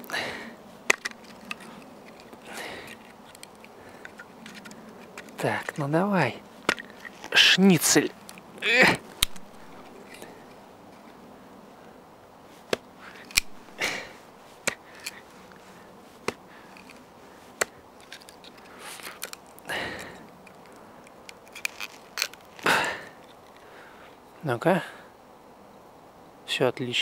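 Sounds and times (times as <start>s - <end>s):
wood fibres cracking: 0.0s - 11.2s, 12.5s - 23.7s.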